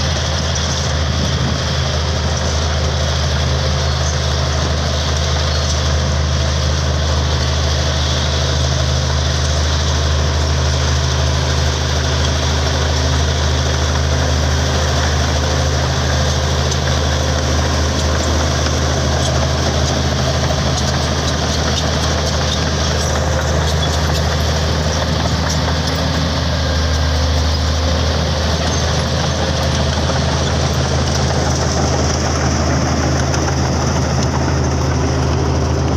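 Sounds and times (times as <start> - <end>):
bulldozer diesel engine running: 0.0 - 35.9.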